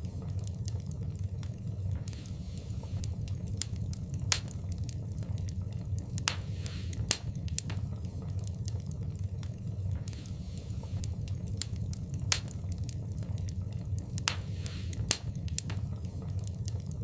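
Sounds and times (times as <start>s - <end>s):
fire hissing: 0.0s - 17.0s
wood fire crackling: 0.0s - 17.0s.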